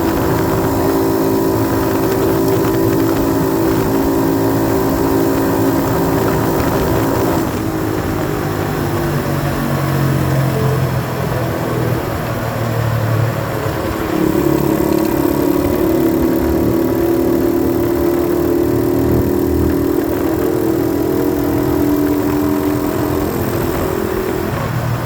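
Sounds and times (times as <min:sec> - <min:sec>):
dirt bike engine revving: 0:00.0 - 0:10.6, 0:13.8 - 0:25.0.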